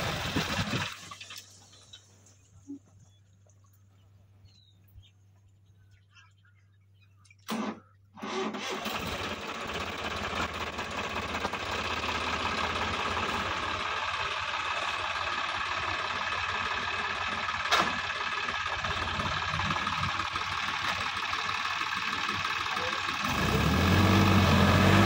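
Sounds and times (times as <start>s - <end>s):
tractor diesel engine running: 0.0s - 3.1s, 7.5s - 25.0s.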